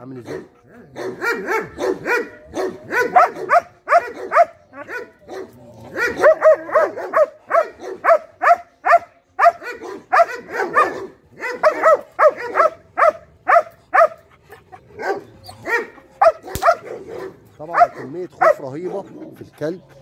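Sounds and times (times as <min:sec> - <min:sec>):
dog barking aggressively: 0:00.0 - 0:14.3, 0:14.9 - 0:19.4.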